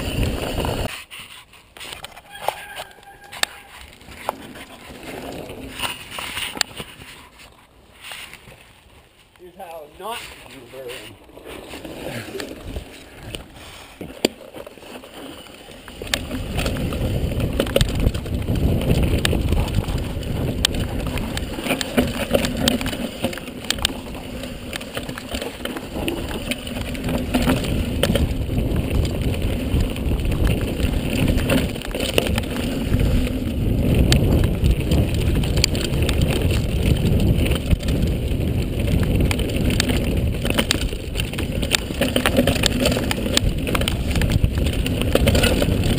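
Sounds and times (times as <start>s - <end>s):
tyres rumbling on dirt: 0.0s - 0.9s, 2.2s - 45.9s
bike knocking and rattling: 0.0s - 45.9s.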